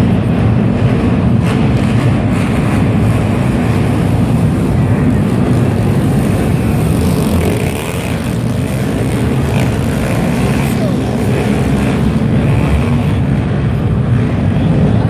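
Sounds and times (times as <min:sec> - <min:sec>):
pit bike engines droning: 0:00.0 - 0:15.0.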